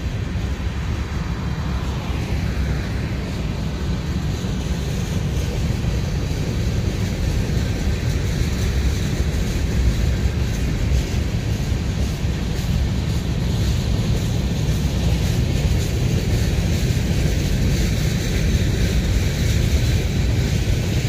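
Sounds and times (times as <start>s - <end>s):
freight cars rumbling on rails: 0.0s - 21.0s.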